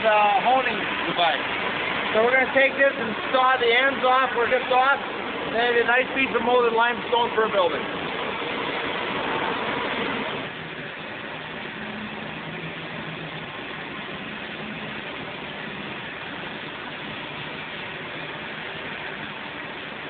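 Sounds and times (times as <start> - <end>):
machinery noise: 0.0 - 20.0.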